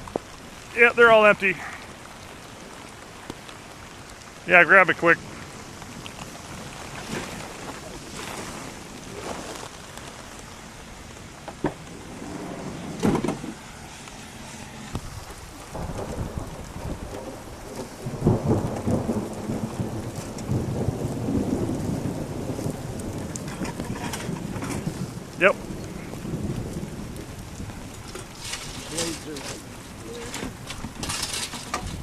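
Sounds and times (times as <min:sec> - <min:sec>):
low uneven rumbling: 0:00.0 - 0:32.0
rain falling: 0:00.0 - 0:32.0.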